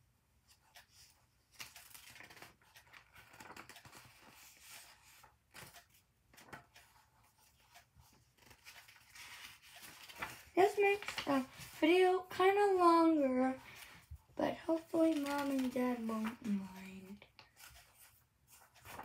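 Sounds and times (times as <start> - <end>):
paper pages rustling: 0.5 - 19.0.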